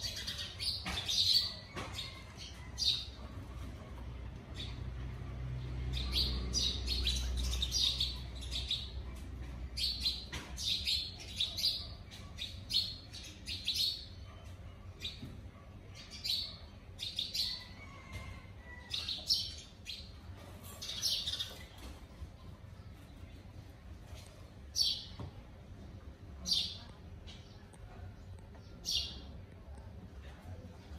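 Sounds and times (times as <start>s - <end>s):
sparrows chirping: 0.0s - 18.2s, 18.8s - 25.6s, 26.2s - 30.9s.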